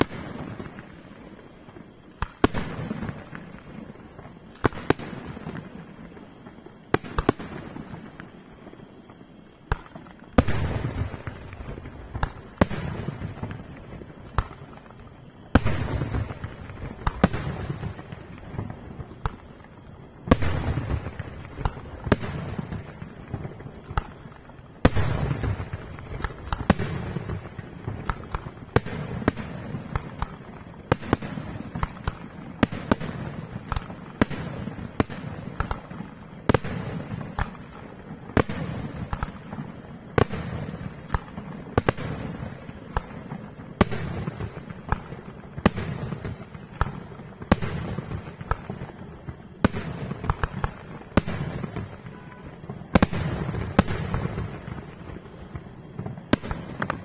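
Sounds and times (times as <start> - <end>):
small firework pops: 0.0 - 57.0.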